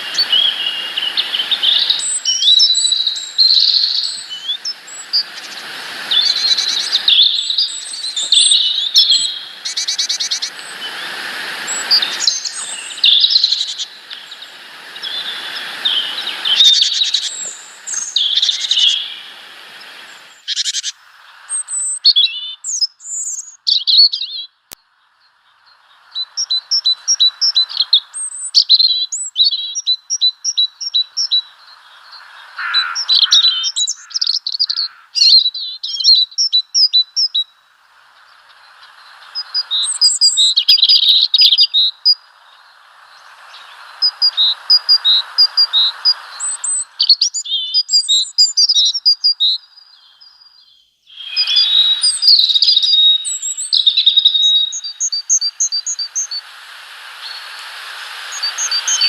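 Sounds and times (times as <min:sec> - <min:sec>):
songbirds chirping and twittering: 0:00.0 - 0:59.0.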